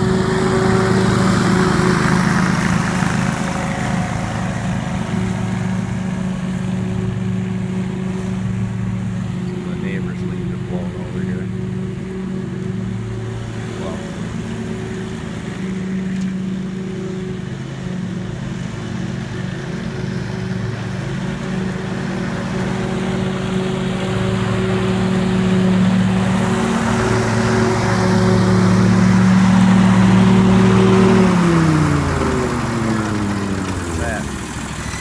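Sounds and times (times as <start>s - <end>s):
mower engine running: 0.0s - 35.0s.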